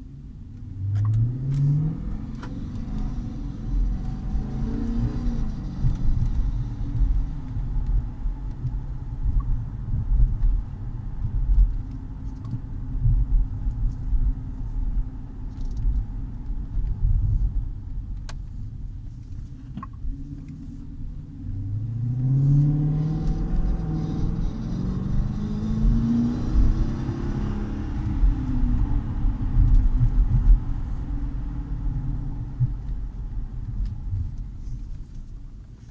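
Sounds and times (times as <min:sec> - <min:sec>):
car engine low rumble: 0:00.0 - 0:35.9.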